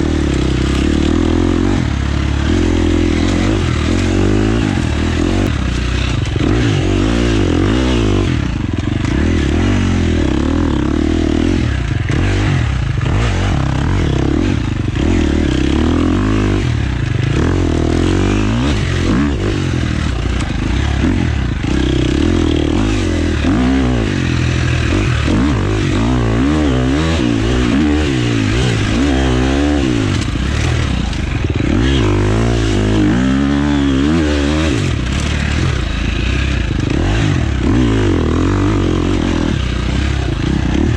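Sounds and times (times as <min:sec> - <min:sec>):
bike rattling and scraping: 0:00.0 - 0:40.9
dirt bike engine revving: 0:00.0 - 0:40.9.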